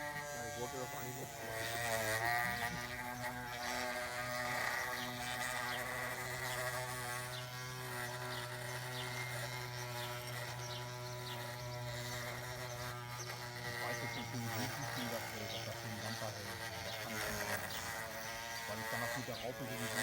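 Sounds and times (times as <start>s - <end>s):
electric motor buzzing whine: 0.0s - 20.0s.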